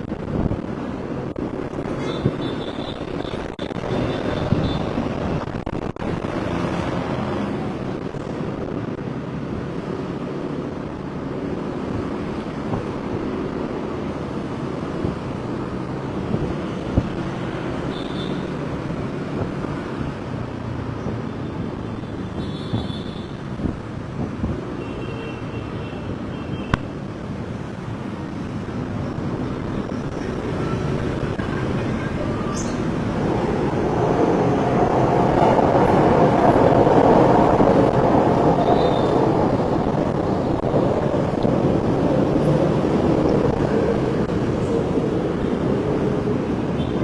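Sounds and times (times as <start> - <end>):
traffic noise with engine hum: 0.0 - 47.0.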